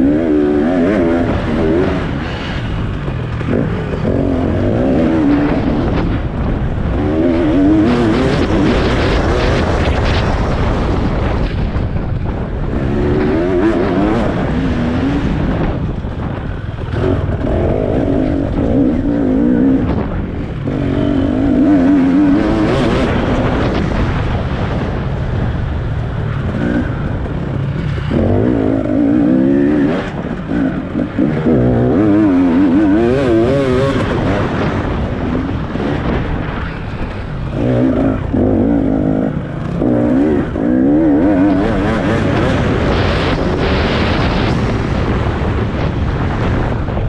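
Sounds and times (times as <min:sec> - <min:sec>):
racing engine revving: 0:00.0 - 0:11.6, 0:12.4 - 0:25.6, 0:26.3 - 0:46.6.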